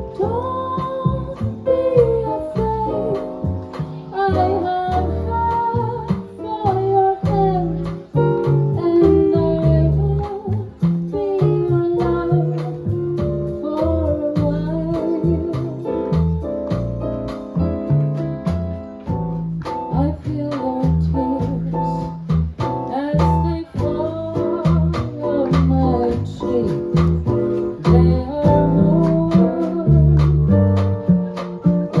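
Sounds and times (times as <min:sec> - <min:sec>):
double bass notes: 0:00.0 - 0:32.0.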